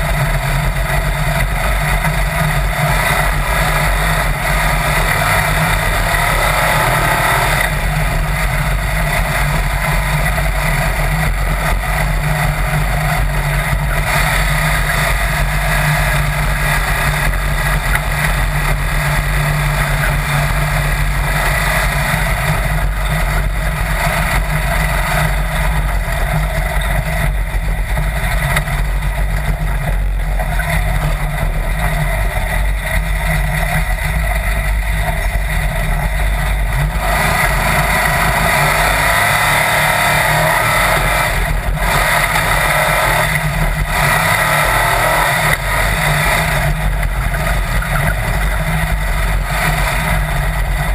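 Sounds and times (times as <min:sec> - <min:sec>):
dune buggy engine running: 0:00.0 - 0:50.9.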